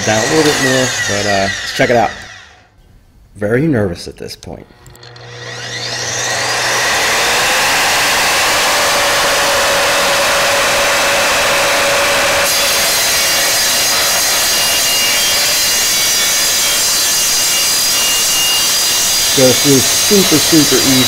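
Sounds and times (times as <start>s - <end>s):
saw blade cutting steel pipe: 0.0s - 2.6s, 5.0s - 21.0s
miter saw motor whining: 0.0s - 2.7s, 4.7s - 21.0s.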